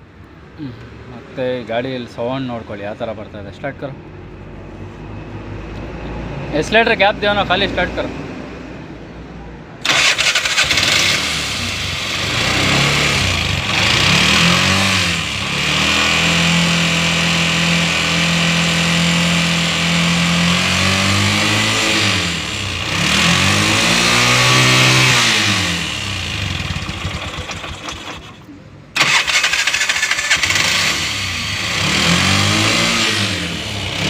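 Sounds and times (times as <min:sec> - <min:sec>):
auto-rickshaw engine revving and idling: 0:05.4 - 0:08.9, 0:09.6 - 0:34.0.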